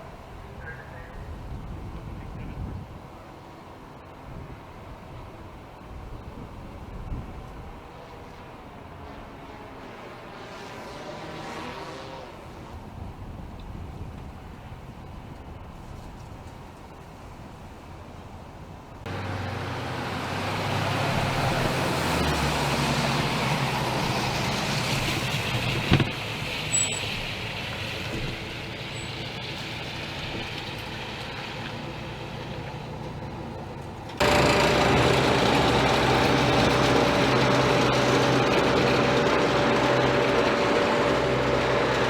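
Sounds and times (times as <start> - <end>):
vehicle engines humming: 0.0 - 13.4, 14.3 - 42.0
outdoor noise: 0.0 - 42.0.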